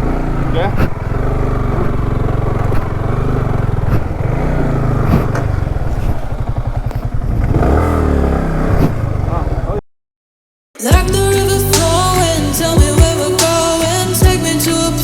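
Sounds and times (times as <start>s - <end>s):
motorcycle engine revving: 0.0s - 9.8s, 10.9s - 15.0s.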